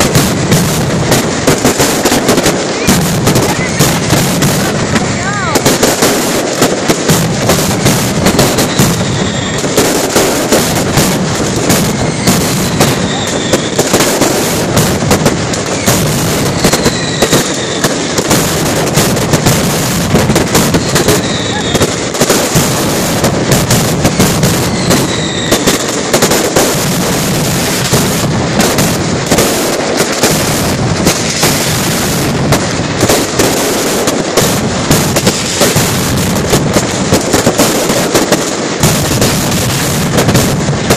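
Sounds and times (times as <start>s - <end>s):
falling firework whistles: 0.0s - 40.9s
firecrackers crackling: 0.0s - 40.9s.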